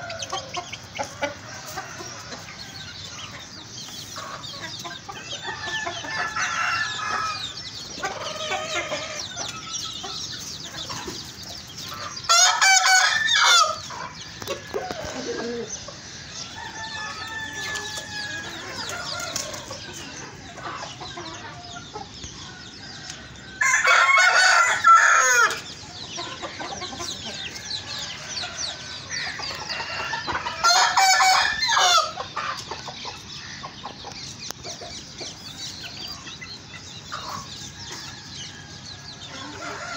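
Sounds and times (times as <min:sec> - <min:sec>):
roosters crowing: 0:00.0 - 0:34.1, 0:34.7 - 0:39.9
chickens clucking softly: 0:00.0 - 0:39.9.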